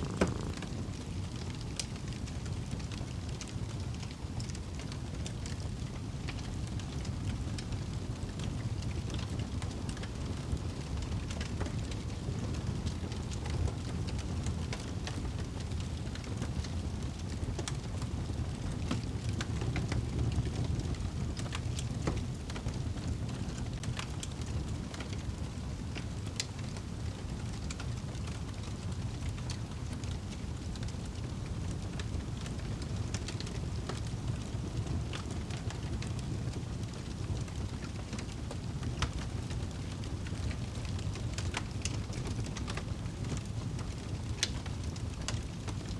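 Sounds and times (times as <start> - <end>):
fire crackling and popping: 0.0 - 45.9
low rumble of fire: 0.0 - 45.9.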